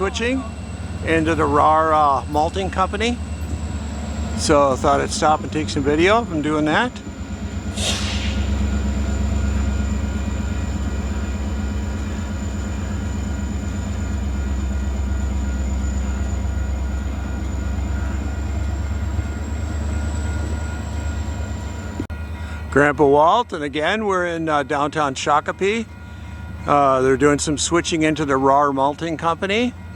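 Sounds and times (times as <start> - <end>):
diesel locomotive engine running: 0.0 - 29.9.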